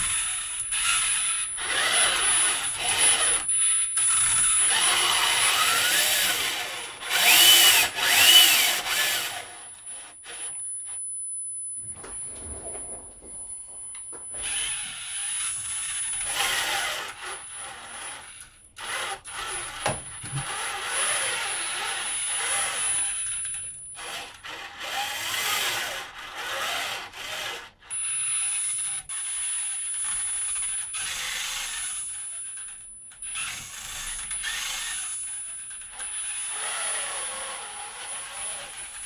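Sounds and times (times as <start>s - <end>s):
robot arm motors whirring: 0.0s - 10.5s, 14.3s - 27.7s, 30.2s - 32.2s, 33.2s - 39.0s.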